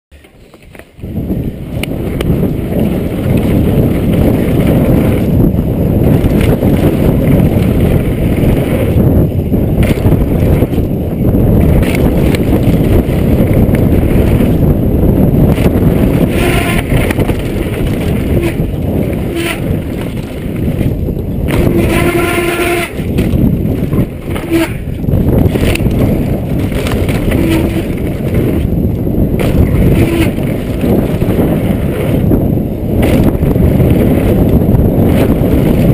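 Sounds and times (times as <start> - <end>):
bike chassis rattle: 0.1 - 35.9
bike tyre roar: 0.1 - 35.9
wind noise on microphone: 0.1 - 35.9.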